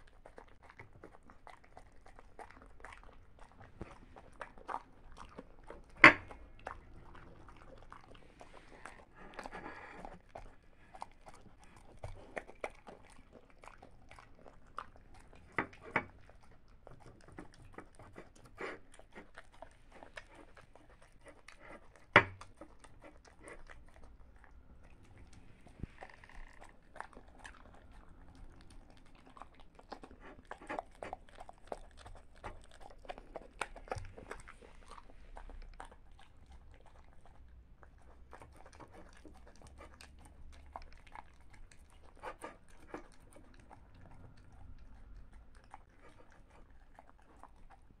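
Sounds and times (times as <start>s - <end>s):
dog crunching and chewing food: 0.0s - 48.0s
dog licking a saucer: 0.0s - 48.0s.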